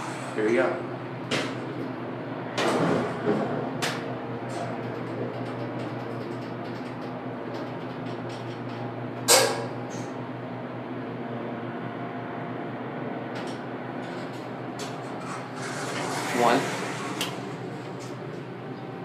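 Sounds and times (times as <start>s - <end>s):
elevator low hum: 0.0s - 19.0s.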